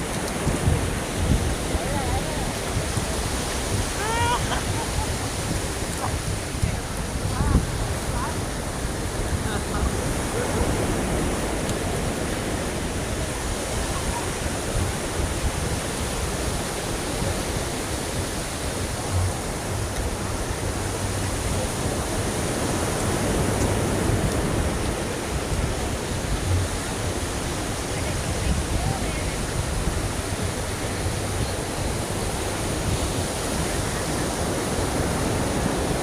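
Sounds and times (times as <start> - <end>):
ocean waves: 0.0 - 36.0.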